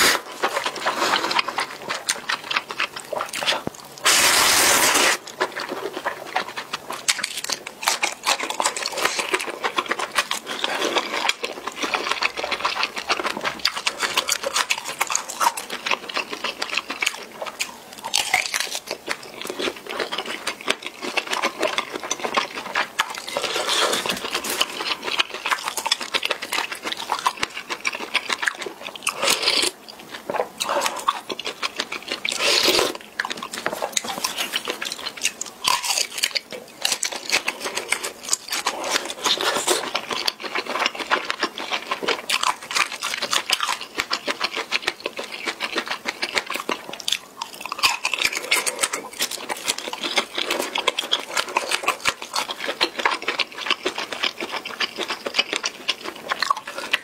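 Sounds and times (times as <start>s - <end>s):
chewing noodles: 0.0s - 57.0s.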